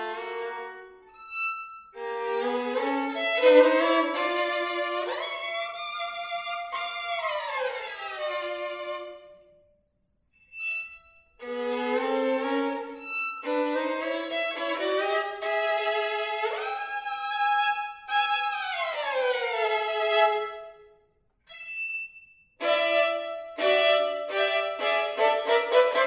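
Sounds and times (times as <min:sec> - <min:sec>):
bowed violin: 0:00.0 - 0:09.6, 0:10.4 - 0:26.0.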